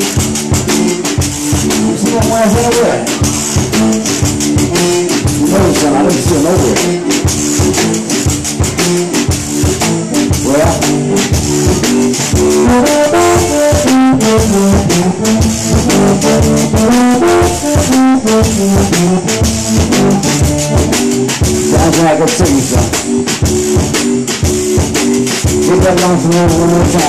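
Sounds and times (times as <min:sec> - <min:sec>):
accordion melody: 0:00.0 - 0:27.0
drum kit beat: 0:00.0 - 0:27.0.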